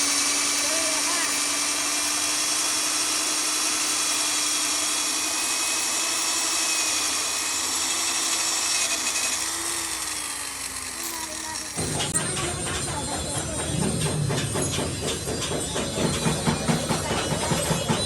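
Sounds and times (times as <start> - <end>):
power tool whining: 0.0 - 18.0.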